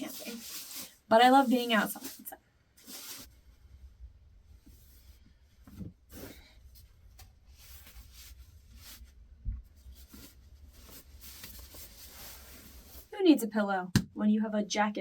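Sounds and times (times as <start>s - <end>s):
clothes and bedding rustling: 0.0s - 13.3s.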